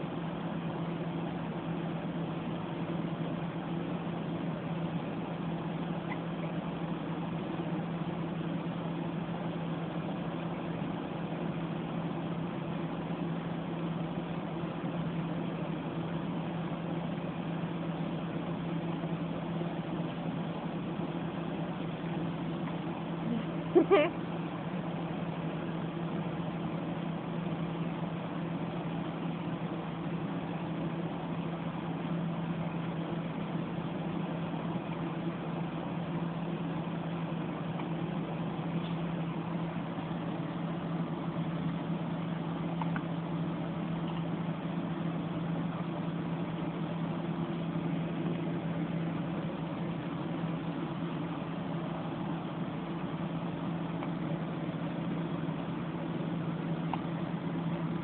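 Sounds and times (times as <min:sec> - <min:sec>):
machine hum: 0:00.0 - 0:58.0.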